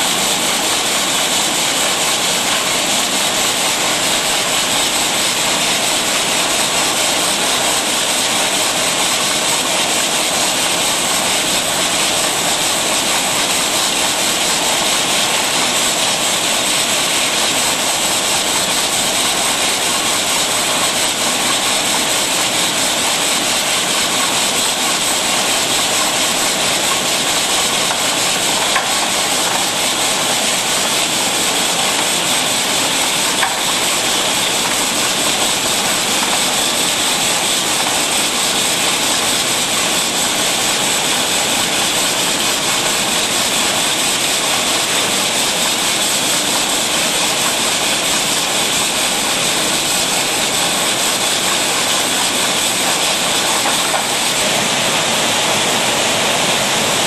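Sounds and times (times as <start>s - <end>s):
bottling machine hiss and whir: 0.0s - 57.0s.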